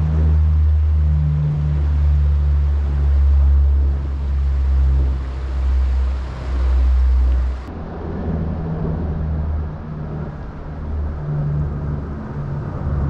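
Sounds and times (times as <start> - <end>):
propeller aircraft droning overhead: 0.0 - 13.0.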